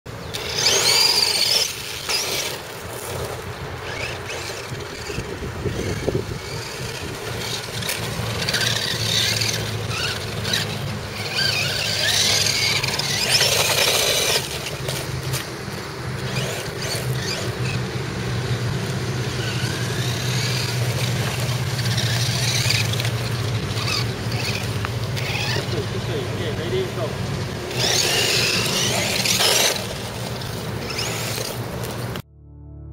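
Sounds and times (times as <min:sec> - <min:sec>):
toy car electric motor whining: 0:00.2 - 0:32.2.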